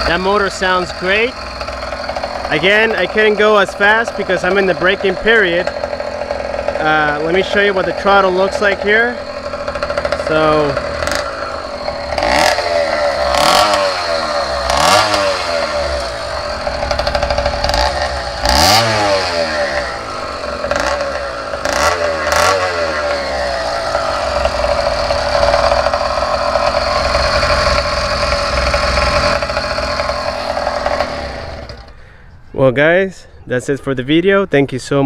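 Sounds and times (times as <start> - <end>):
two-stroke engine revving: 0.0 - 32.3.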